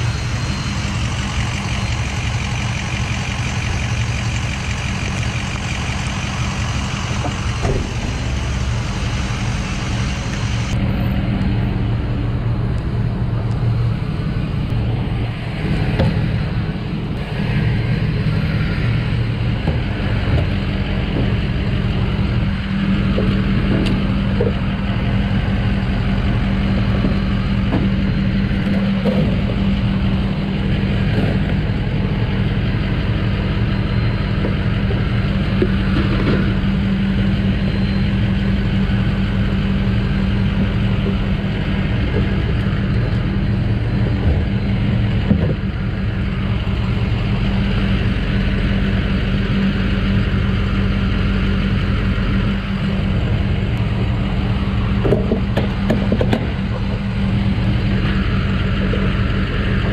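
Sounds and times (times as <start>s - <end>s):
fuel pump humming and hissing: 0.0s - 11.0s, 13.5s - 59.9s.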